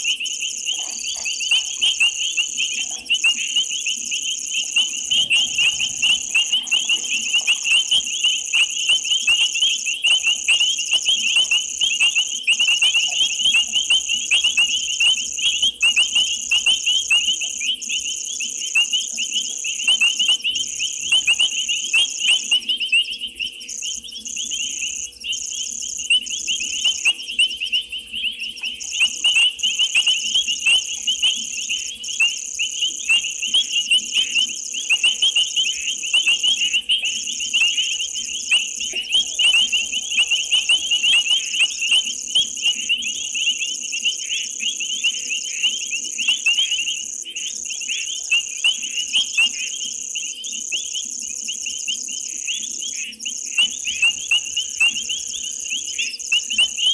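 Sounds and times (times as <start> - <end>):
frogs trilling: 0.0 - 56.9
high-pitched insect drone: 0.0 - 56.9.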